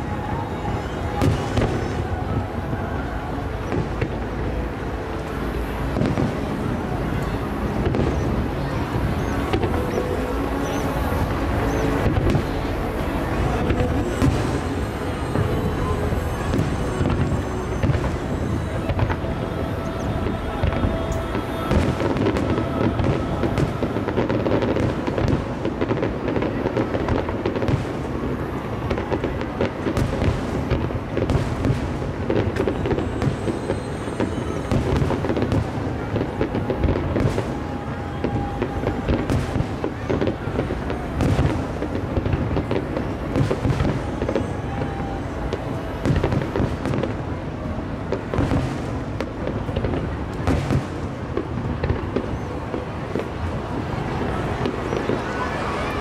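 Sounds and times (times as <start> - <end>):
music playing: 0.0 - 50.7
fireworks bursting: 0.0 - 56.0.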